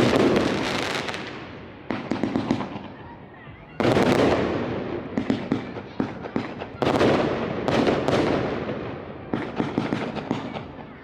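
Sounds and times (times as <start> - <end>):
fireworks bangs with crackle: 0.0 - 3.1, 3.8 - 11.0.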